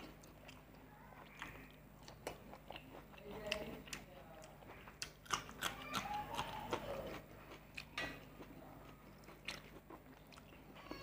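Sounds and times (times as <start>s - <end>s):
biting and chewing chilli: 0.0s - 11.0s.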